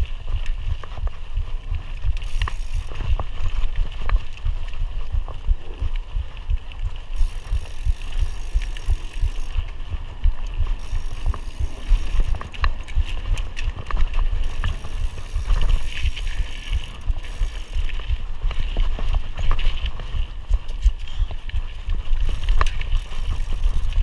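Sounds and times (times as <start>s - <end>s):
bike clicks and rattles: 0.0s - 24.0s
mountain bike rumble: 0.0s - 24.0s.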